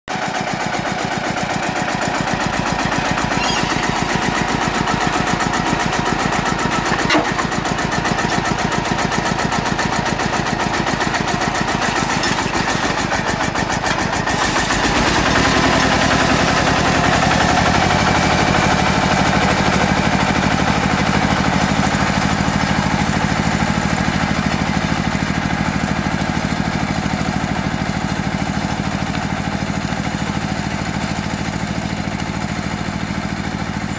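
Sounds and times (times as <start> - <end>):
tractor diesel engine chugging: 0.1 - 33.9.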